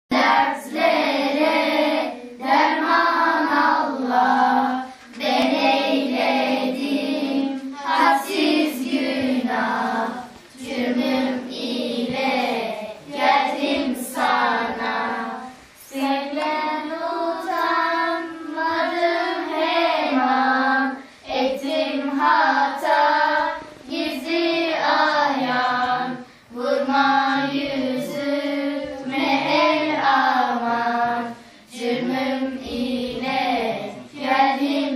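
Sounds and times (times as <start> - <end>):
girls singing a hymn together: 0.1 - 34.9.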